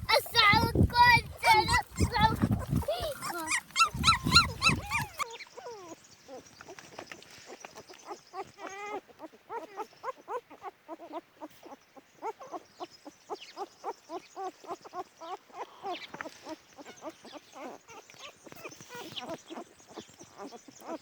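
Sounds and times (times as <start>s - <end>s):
puppies whining and yelping: 0.8s - 6.4s, 8.1s - 12.6s, 14.4s - 21.0s.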